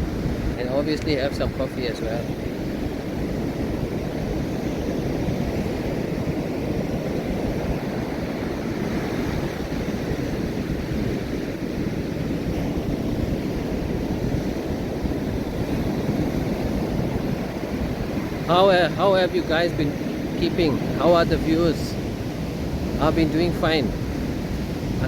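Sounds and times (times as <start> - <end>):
ocean surf rushing: 0.0 - 25.0
wind buffeting microphone: 0.0 - 25.0.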